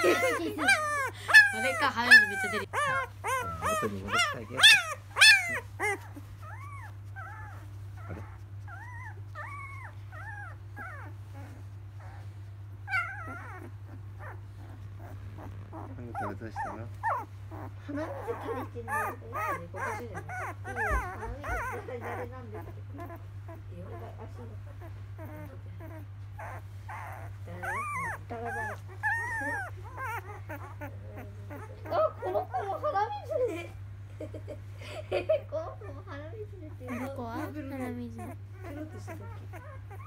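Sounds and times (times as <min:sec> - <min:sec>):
puppy whimpering and squealing: 0:00.0 - 0:33.5, 0:35.7 - 0:40.0.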